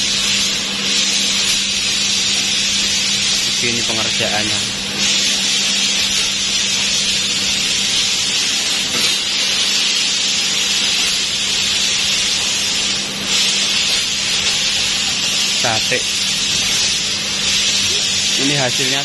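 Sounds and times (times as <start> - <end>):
laser cutter jet hissing: 0.0 - 19.0.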